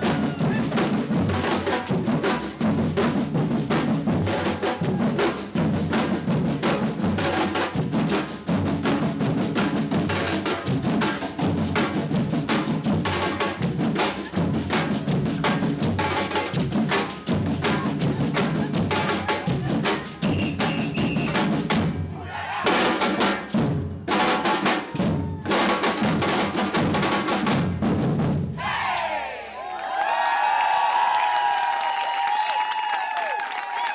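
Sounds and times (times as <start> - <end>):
samba percussion band: 0.0 - 28.9.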